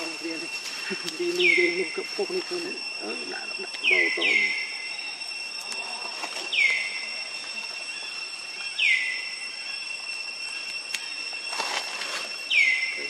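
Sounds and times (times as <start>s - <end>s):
high-pitched wildlife whine: 0.0s - 13.0s.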